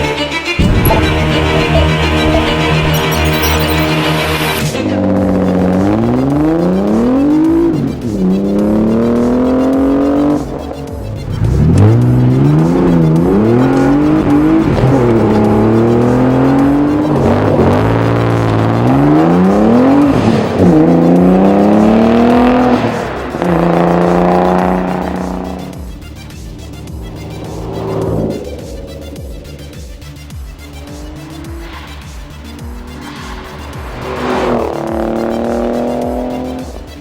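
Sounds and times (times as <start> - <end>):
car engine revving through gear shifts: 0.6 - 37.0.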